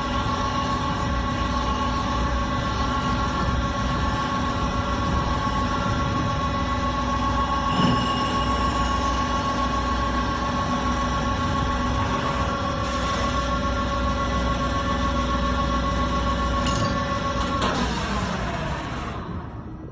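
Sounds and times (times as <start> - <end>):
metal spinning lathe humming: 0.0 - 19.6.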